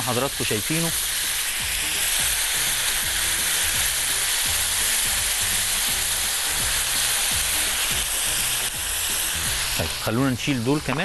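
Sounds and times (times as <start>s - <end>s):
sauce sizzling in frying pan: 0.0s - 11.0s.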